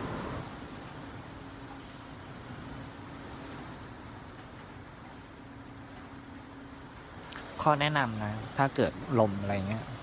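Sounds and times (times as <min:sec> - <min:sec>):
wind gusting around a building: 0:00.0 - 0:10.0.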